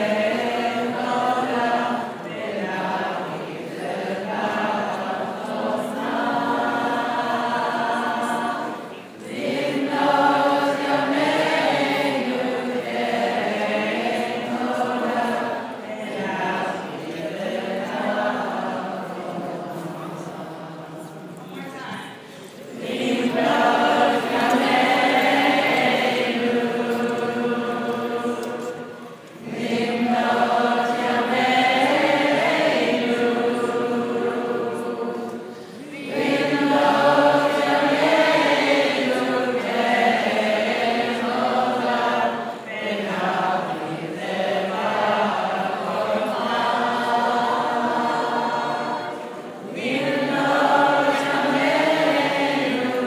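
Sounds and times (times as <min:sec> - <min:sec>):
group of voices singing: 0:00.0 - 0:53.0.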